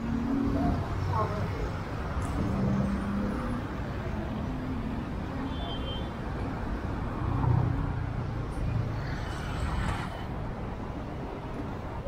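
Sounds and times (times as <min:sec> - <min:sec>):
steady street traffic noise: 0:00.0 - 0:12.0.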